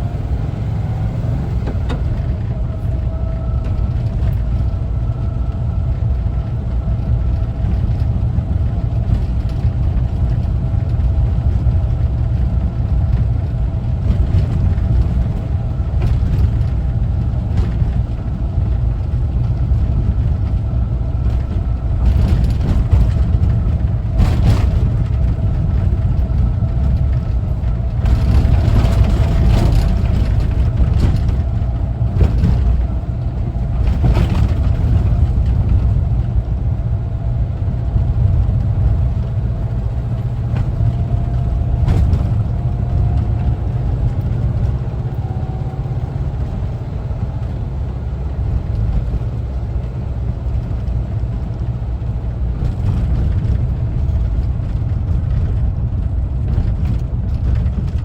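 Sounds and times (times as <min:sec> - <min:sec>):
road noise rumble: 0:00.0 - 0:58.0
van engine droning: 0:00.0 - 0:58.0.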